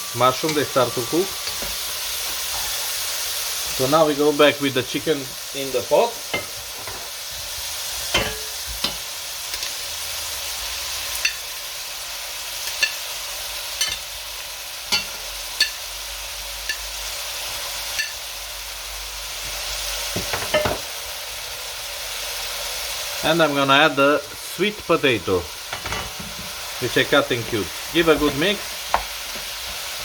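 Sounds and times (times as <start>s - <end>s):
food sizzling in a pot: 0.0s - 30.0s.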